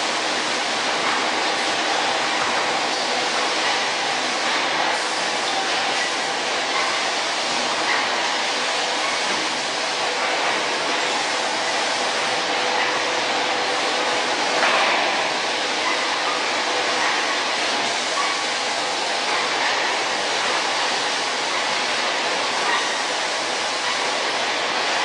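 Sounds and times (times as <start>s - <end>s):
factory machinery running: 0.0s - 25.0s.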